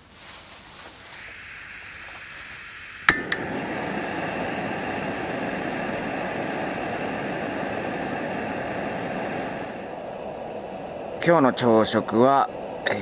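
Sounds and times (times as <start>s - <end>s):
gas burner hissing: 1.0s - 13.0s.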